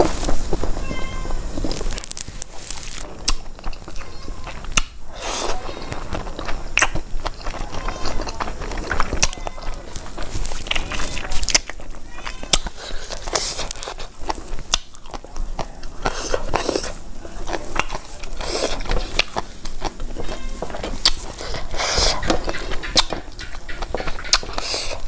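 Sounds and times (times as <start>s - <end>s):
chewing with wet mouth clicks: 1.6s - 25.0s.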